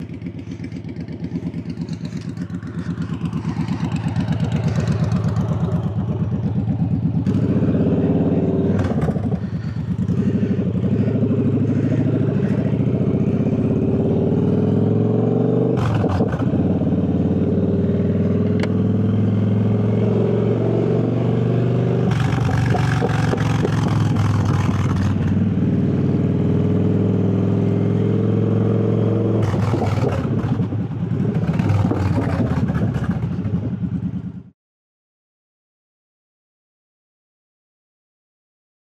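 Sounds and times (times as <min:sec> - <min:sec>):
motorcycle engine accelerating: 0:00.0 - 0:34.6.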